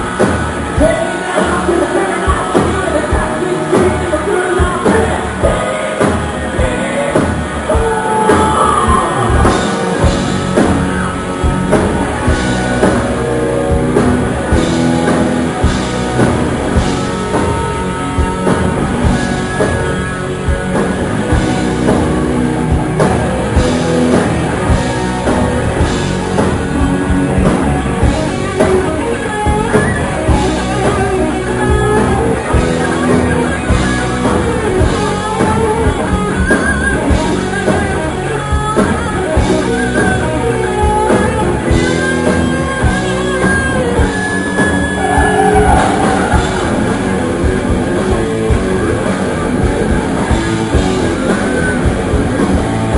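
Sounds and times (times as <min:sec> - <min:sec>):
drum kit: 0:00.0 - 0:52.9
electric guitars: 0:00.0 - 0:52.9.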